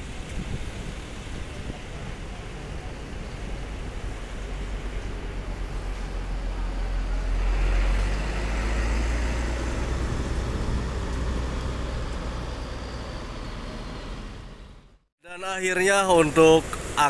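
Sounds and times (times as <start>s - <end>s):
bus engine rumble passing: 0.0s - 15.1s.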